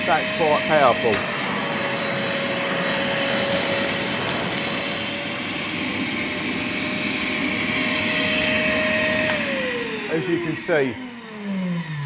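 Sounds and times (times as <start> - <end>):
vacuum cleaner running: 0.0 - 12.0
vacuum sucking up debris: 0.2 - 10.4.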